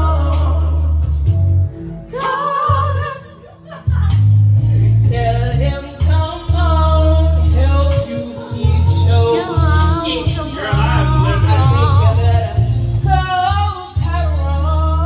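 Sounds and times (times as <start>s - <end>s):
heavy bass notes: 0.0s - 15.0s
sung vocal: 0.0s - 15.0s.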